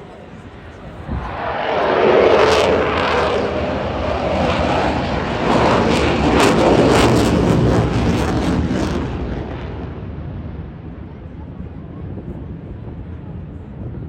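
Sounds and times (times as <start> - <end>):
jet engines flying past: 0.0 - 14.0.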